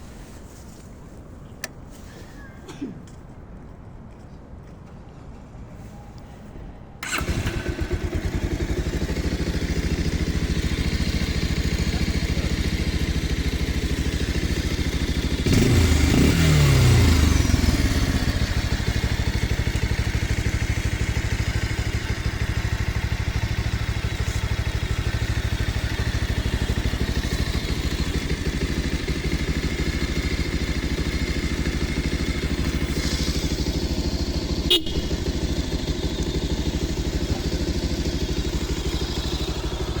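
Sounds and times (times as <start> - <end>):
motorcycle engine idling: 7.0 - 40.0.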